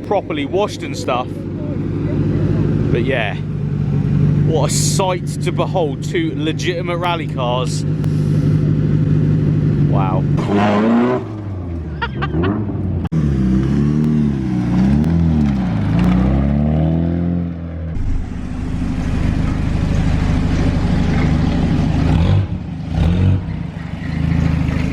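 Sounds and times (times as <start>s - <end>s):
rally car engine revving: 0.0s - 24.9s.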